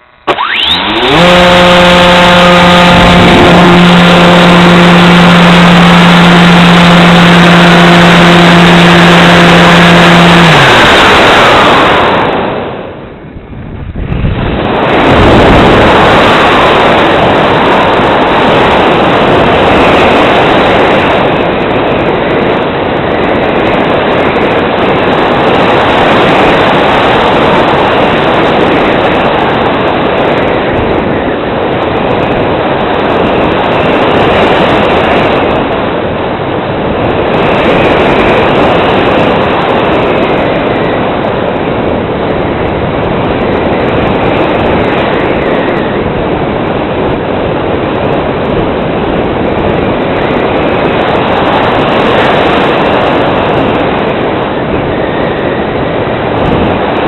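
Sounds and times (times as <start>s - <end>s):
airflow rushing over camera: 0.0s - 57.0s.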